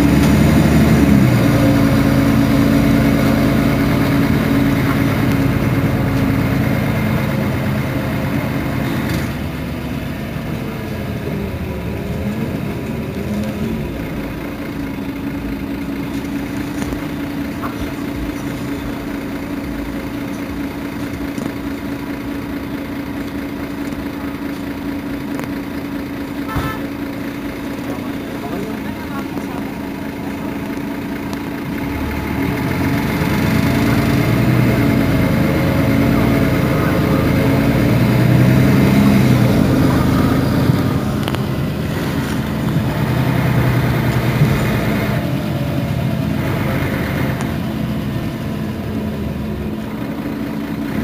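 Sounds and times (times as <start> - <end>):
bus engine idling: 0.0 - 51.0.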